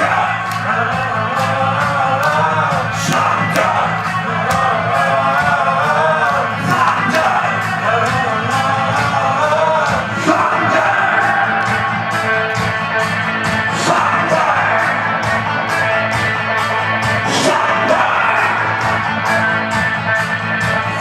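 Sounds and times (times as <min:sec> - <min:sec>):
karaoke backing track: 0:00.0 - 0:21.0
man singing into microphone: 0:00.0 - 0:21.0.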